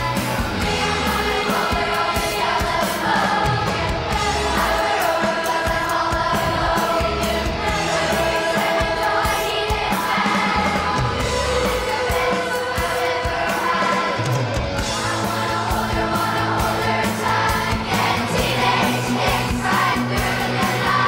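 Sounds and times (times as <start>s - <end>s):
backing track bass and drums: 0.0s - 21.0s
children's choir singing: 0.0s - 21.0s.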